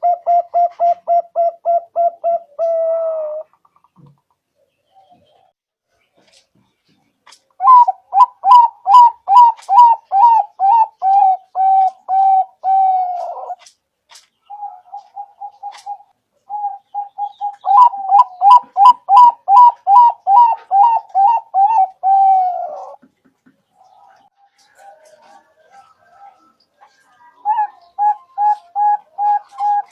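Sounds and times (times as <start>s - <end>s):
dove cooing: 0.0s - 3.7s, 7.6s - 13.6s, 14.5s - 23.0s, 23.8s - 29.9s.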